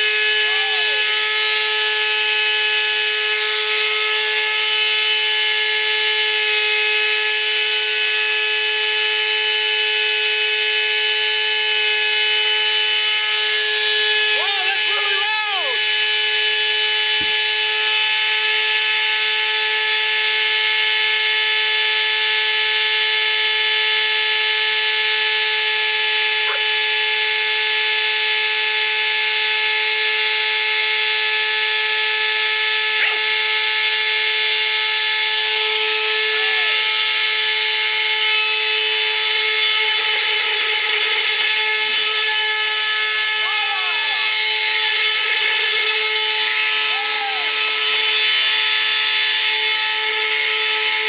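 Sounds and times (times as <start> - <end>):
vacuum cleaner high-pitched whine: 0.0 - 51.0.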